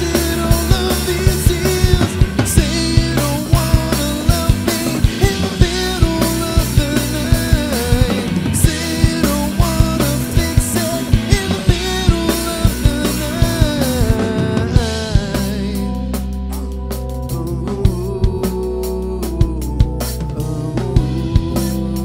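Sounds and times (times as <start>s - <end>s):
bending melody line: 0.0s - 22.0s
drum kit beat: 0.0s - 22.0s
electric bass: 0.0s - 22.0s
electric guitar: 0.0s - 22.0s.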